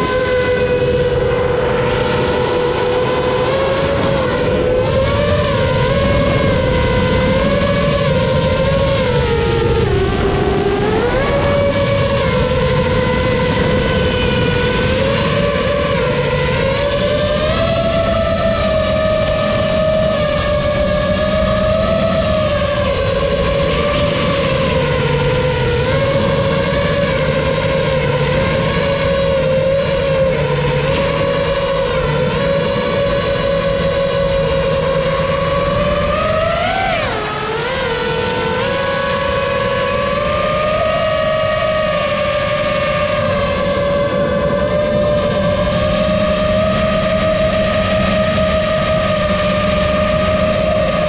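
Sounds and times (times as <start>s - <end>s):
drone motors whining: 0.0s - 51.0s
steady rushing noise: 0.0s - 51.0s.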